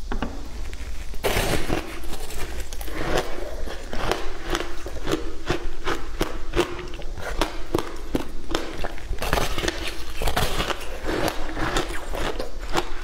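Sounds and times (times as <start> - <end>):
ice being chewed: 0.7 - 13.0.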